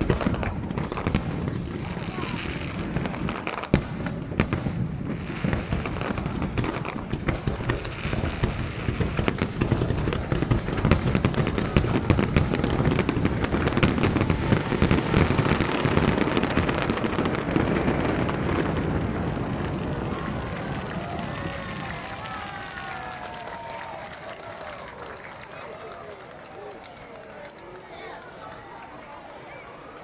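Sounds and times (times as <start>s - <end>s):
fireworks bangs and crackling: 0.0s - 27.1s.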